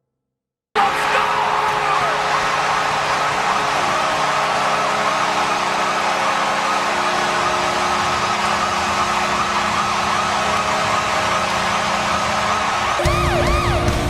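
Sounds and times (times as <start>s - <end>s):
crowd roar: 0.8s - 14.0s
goal horn blast: 0.8s - 14.0s.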